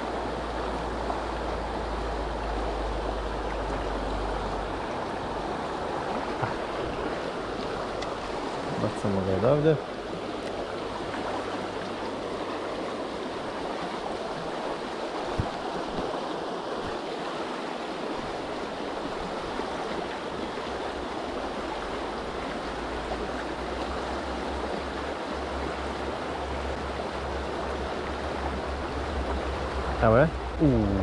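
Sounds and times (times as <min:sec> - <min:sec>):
river flowing over stones: 0:00.0 - 0:31.0.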